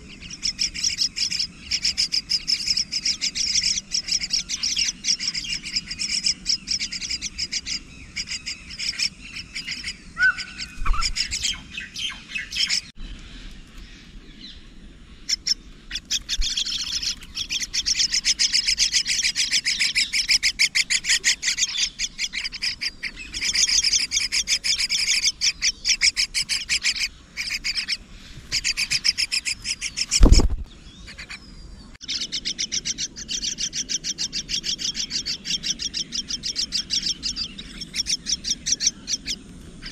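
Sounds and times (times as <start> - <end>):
chicks chirping raspy calls: 0.0 - 39.9.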